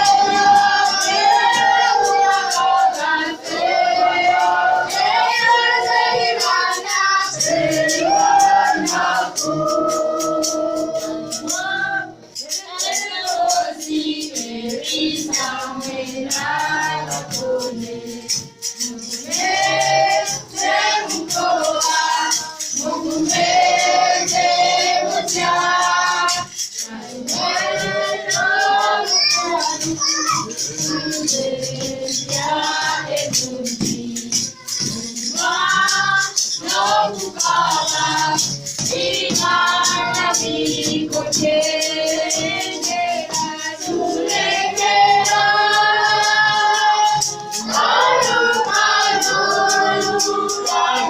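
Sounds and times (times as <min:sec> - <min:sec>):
choir singing: 0:00.0 - 0:51.0
percussion beat: 0:00.0 - 0:51.0.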